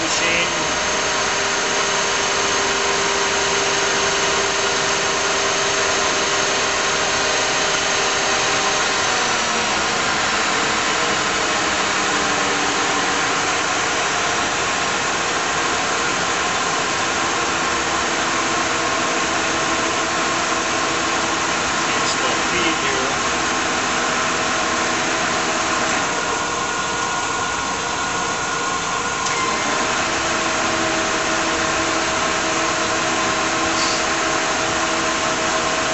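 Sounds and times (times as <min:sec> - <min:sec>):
lathe mechanical whine: 0:00.0 - 0:35.9.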